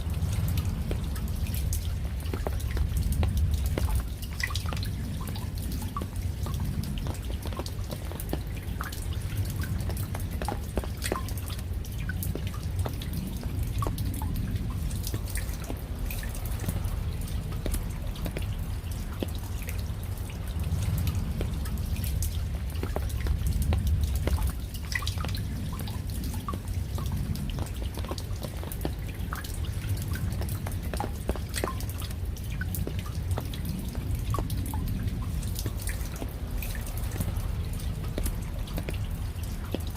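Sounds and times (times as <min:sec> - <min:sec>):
drops dripping and tapping: 0:00.0 - 0:39.9
low even rumble: 0:00.0 - 0:39.9
rain falling: 0:00.0 - 0:39.9.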